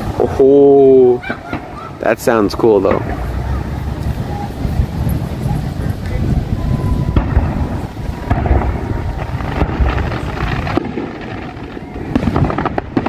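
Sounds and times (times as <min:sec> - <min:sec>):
highway traffic: 0:00.0 - 0:13.0
wind buffeting the microphone: 0:00.0 - 0:13.0.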